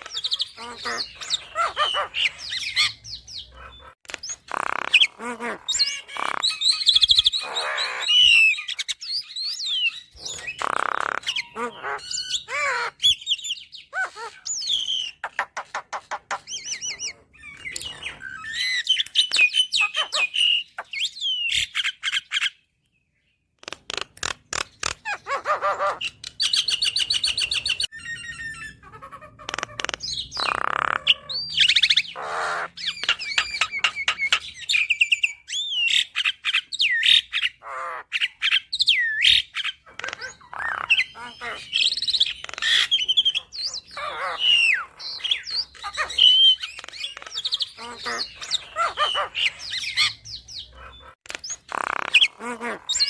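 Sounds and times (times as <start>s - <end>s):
myna bird singing: 0.0s - 53.0s.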